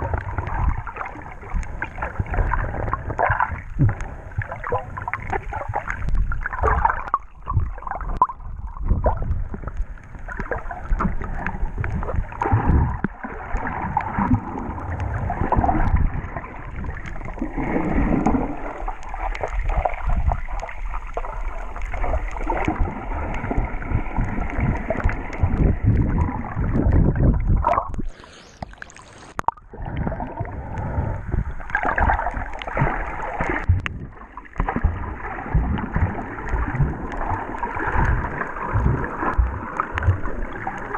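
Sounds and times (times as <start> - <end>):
muffled underwater water rushing: 0.0 - 40.9.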